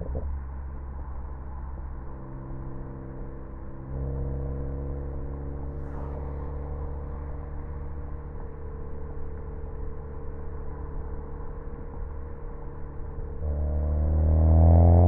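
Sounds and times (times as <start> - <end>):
car engine and exhaust drone: 0.0 - 15.0.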